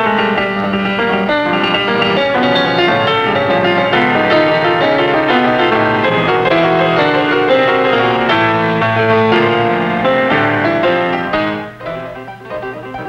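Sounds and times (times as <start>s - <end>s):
busy piano music: 0.0s - 13.0s.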